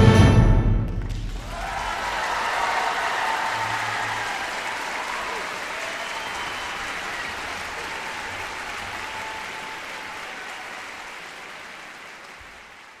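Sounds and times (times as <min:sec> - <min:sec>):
audience applauding: 0:00.9 - 0:13.0.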